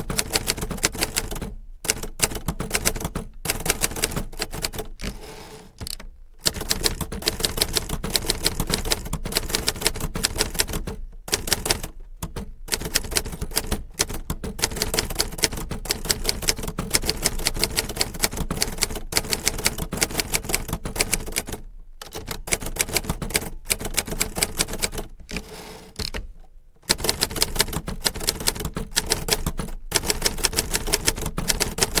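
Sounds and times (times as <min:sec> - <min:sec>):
typewriter keys striking: 0:00.0 - 0:05.2, 0:05.8 - 0:32.0.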